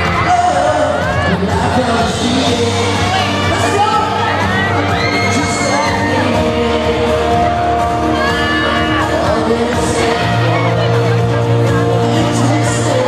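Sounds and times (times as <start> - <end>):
man singing into a microphone: 0.0 - 7.6, 8.8 - 11.0, 11.9 - 13.0
amplified backing track: 0.0 - 13.0
crowd shouting and cheering: 0.0 - 13.0.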